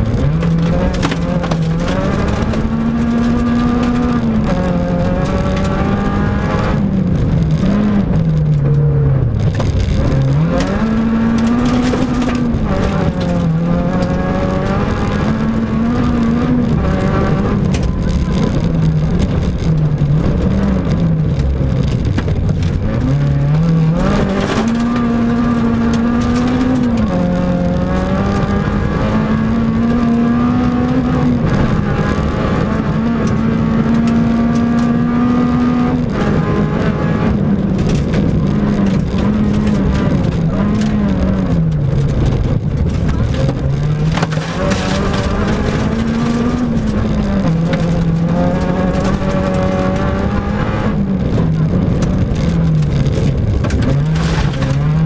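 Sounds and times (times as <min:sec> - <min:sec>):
gravel rumbling under car: 0:00.0 - 0:55.0
rally car engine revving: 0:00.0 - 0:55.0.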